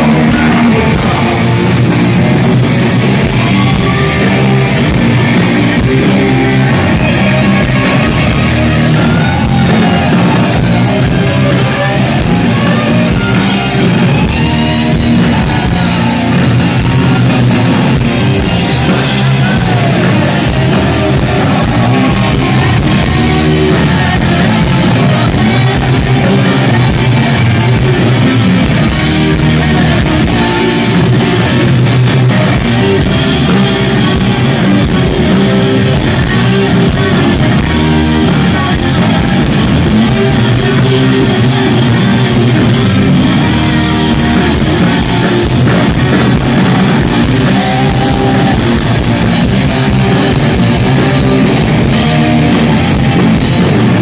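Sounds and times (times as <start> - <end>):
bass guitar: 0.0 - 54.0
distorted electric guitars: 0.0 - 54.0
drum kit: 0.0 - 54.0
person singing: 0.0 - 54.0.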